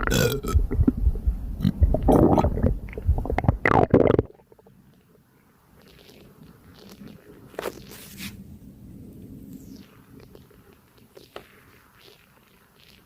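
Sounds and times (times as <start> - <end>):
stomach gurgling: 0.0 - 8.0, 9.7 - 13.0.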